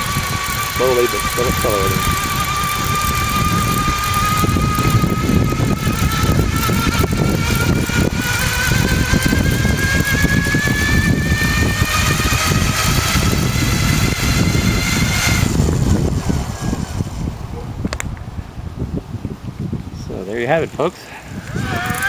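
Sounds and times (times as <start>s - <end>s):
electric motor whining: 0.0s - 18.4s, 21.2s - 22.0s
low rumble: 0.0s - 20.1s.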